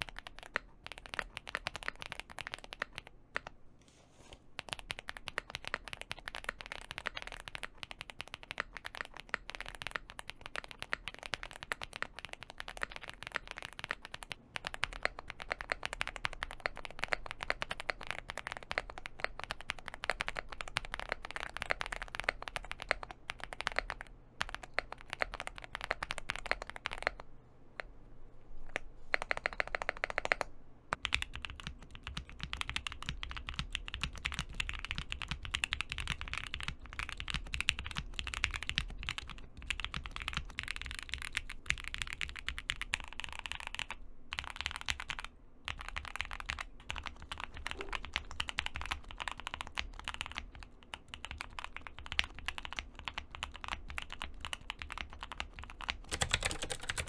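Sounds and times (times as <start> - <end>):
mechanical keyboard typing: 0.0 - 3.5, 4.6 - 27.3, 28.6 - 57.0.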